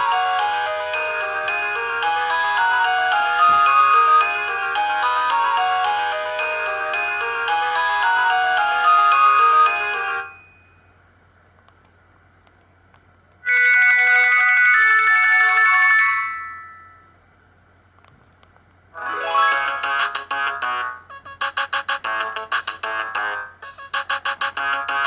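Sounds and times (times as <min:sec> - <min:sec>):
polyphonic phone ringtones: 0:00.0 - 0:10.5, 0:13.5 - 0:17.1, 0:19.0 - 0:25.0.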